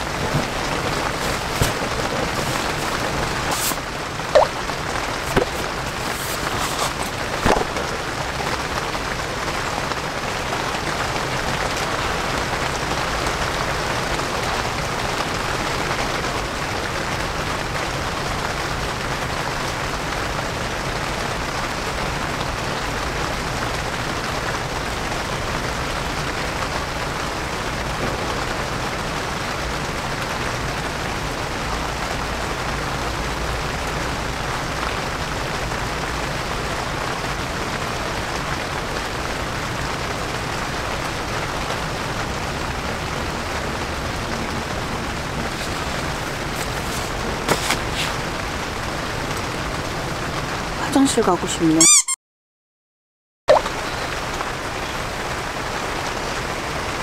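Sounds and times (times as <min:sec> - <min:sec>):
rain on tent fabric: 0:00.0 - 0:51.8, 0:53.5 - 0:57.0.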